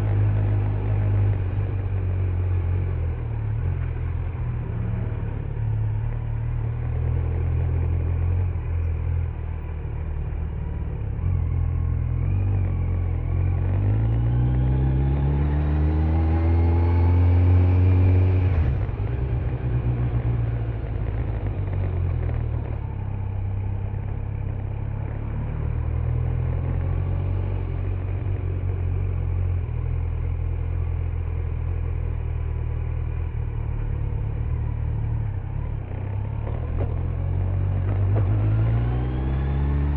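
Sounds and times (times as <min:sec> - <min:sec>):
motorcycle engine revving: 0:00.0 - 0:39.9
road noise: 0:00.0 - 0:39.9.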